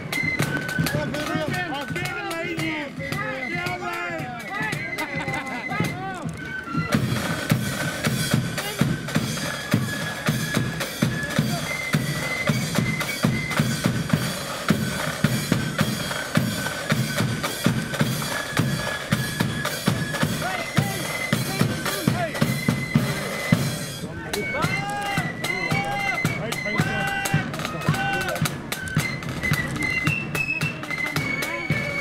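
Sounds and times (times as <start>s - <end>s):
high flute melody: 0.0s - 32.0s
side drums rattling: 0.0s - 32.0s.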